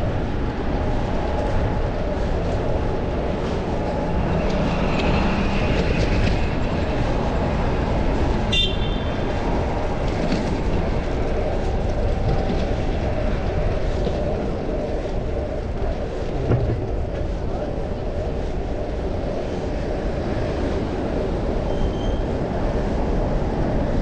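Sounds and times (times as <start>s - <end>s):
bicycle road noise: 0.0s - 24.0s
wind buffeting microphone: 0.0s - 24.0s.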